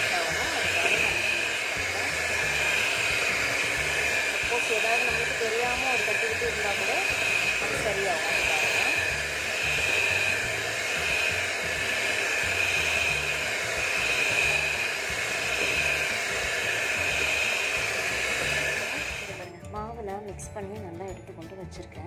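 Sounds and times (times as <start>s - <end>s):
electric hand mixer whining: 0.0s - 19.6s.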